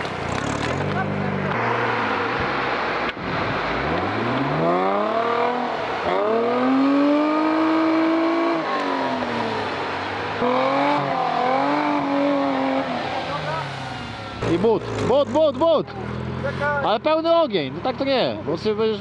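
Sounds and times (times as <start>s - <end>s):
off-road vehicle engine revving: 0.0s - 18.8s.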